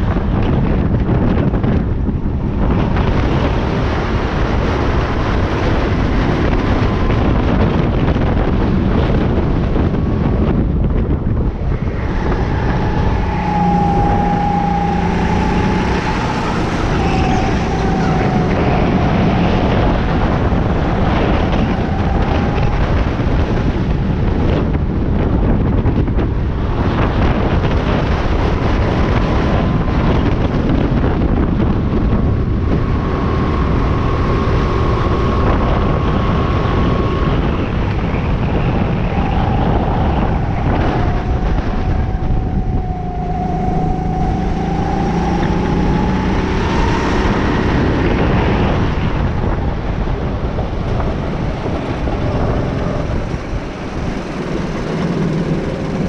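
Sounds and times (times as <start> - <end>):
go-kart engine racing: 0.0 - 56.0
wind buffeting microphone: 0.0 - 56.0.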